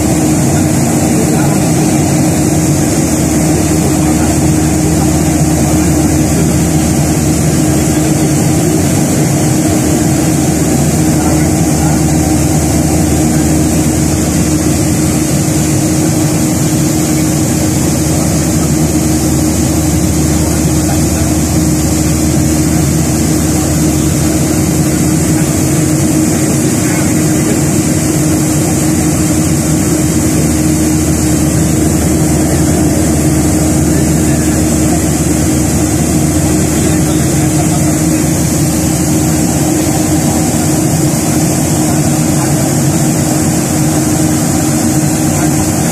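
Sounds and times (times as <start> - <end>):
airliner cabin drone: 0.0 - 45.9
constant low hum: 0.0 - 45.9.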